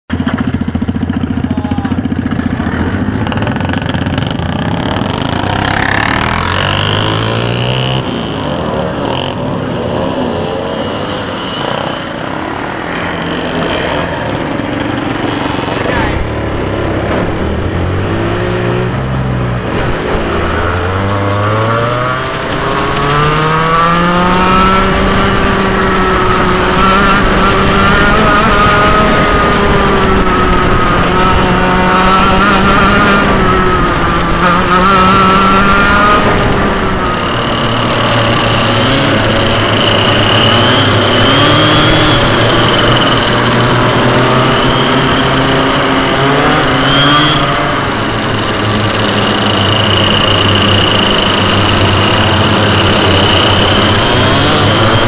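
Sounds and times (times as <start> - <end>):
kart engine revving: 0.1 - 55.0
tyre and wind noise: 0.1 - 55.0.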